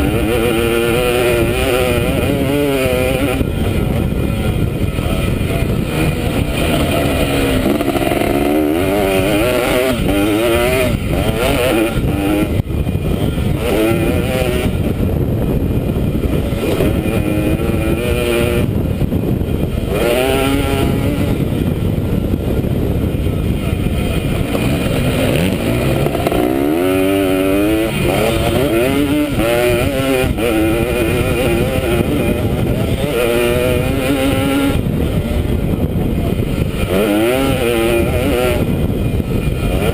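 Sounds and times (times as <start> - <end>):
dirt bike engine revving: 0.0 - 39.9
wind rush on microphone: 0.0 - 39.9.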